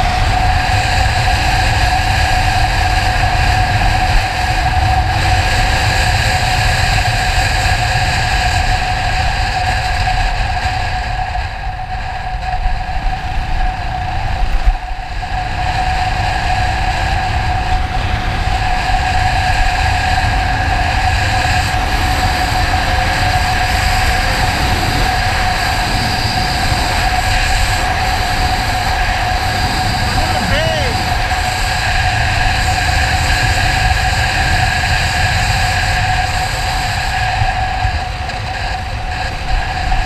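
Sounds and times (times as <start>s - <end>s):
vehicle rumble with whine: 0.0s - 40.0s.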